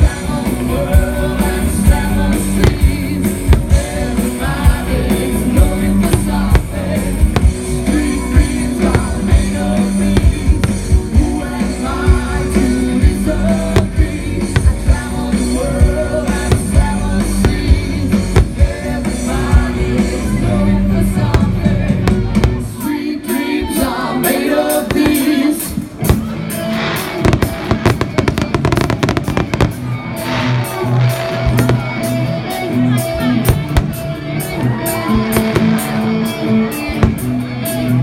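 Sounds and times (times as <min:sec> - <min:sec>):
rock music with singing: 0:00.0 - 0:38.0.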